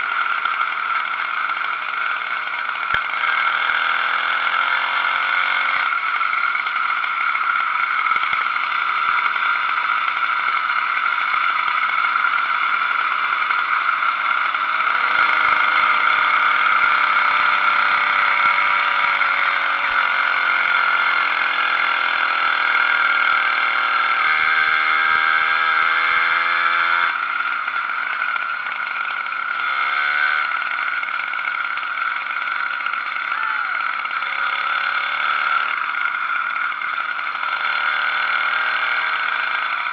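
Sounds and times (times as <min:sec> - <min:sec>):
two-stroke bicycle engine running: 0:00.0 - 0:39.9.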